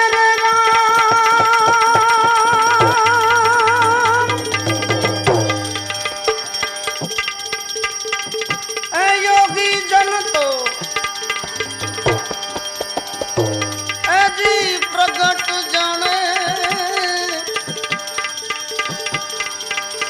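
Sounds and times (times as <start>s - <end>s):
instrumental melody with bent notes: 0.0s - 20.0s
tabla playing a rhythm: 0.0s - 20.0s.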